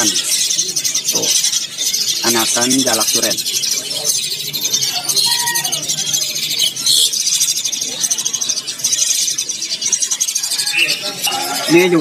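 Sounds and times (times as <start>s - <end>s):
starling chicks begging chatter: 0.0s - 12.0s.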